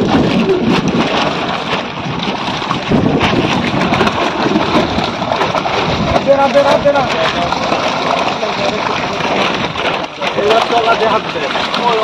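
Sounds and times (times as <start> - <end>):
fish splashing in shallow water: 0.0 - 12.0.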